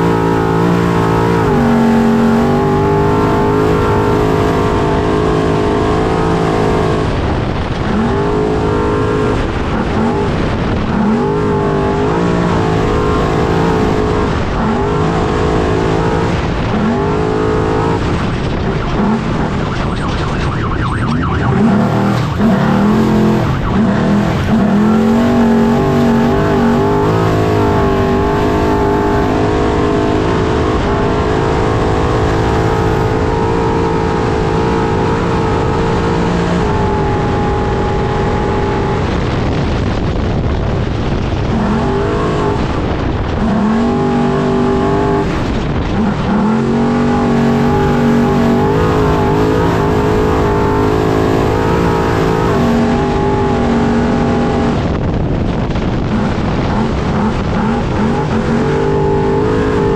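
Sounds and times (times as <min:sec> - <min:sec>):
road and chassis noise: 0:00.0 - 0:59.9
truck engine running hard: 0:00.0 - 0:59.9.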